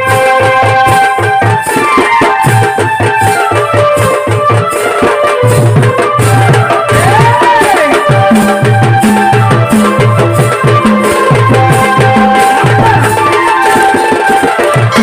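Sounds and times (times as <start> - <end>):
drum beat: 0.0 - 15.0
held melody line: 0.0 - 15.0.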